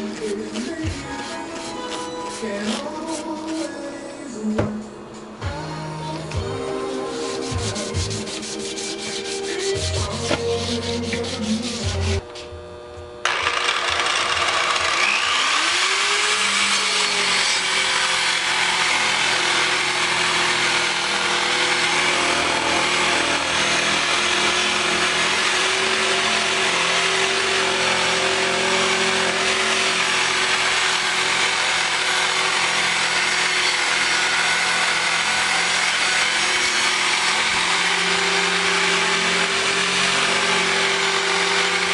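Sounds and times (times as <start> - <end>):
metal being sanded: 0.0 - 3.9, 6.6 - 12.2, 15.0 - 41.9.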